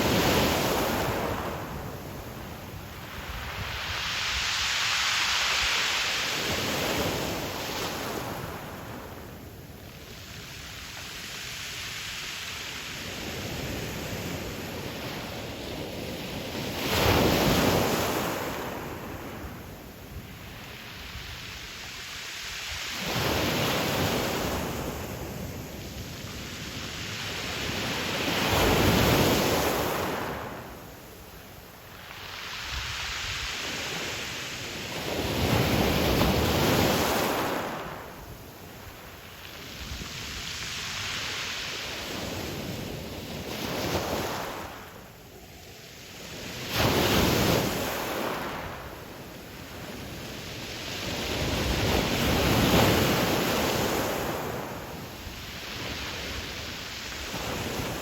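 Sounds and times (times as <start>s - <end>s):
waves breaking on pebble beach: 0.0s - 31.1s, 31.8s - 45.2s, 46.0s - 58.0s.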